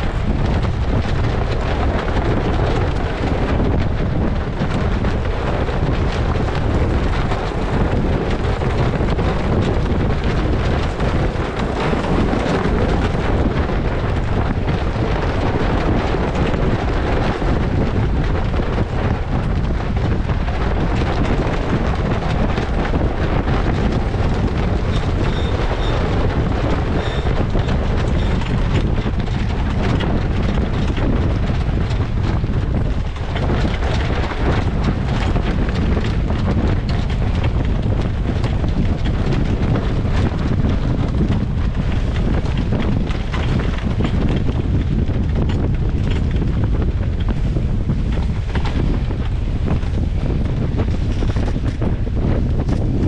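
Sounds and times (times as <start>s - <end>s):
water rushing along a hull: 0.0s - 53.0s
wind buffeting microphone: 0.0s - 53.0s.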